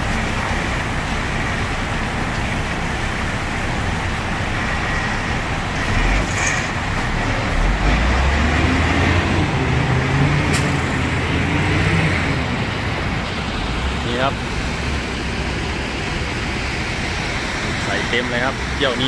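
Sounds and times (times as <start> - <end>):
diesel engine working: 0.0 - 19.0.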